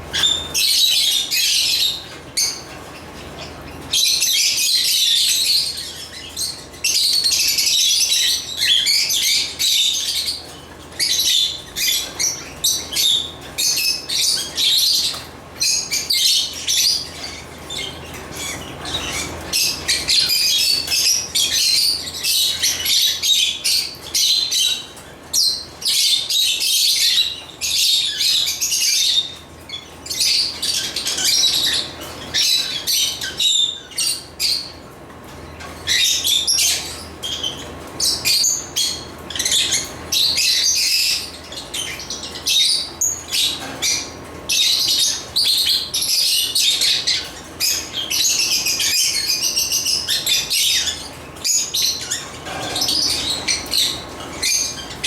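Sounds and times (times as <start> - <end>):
lovebirds chirping shrilly: 0.0 - 55.0.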